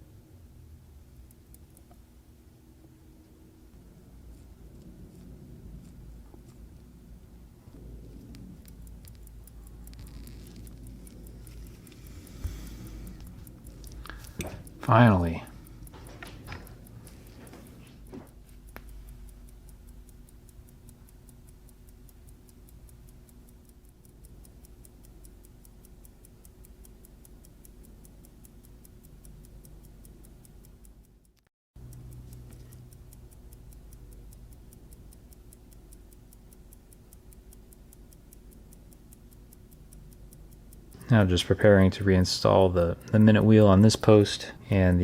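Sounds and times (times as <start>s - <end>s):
pocket watch ticking: 1.1s - 3.2s, 3.9s - 45.0s.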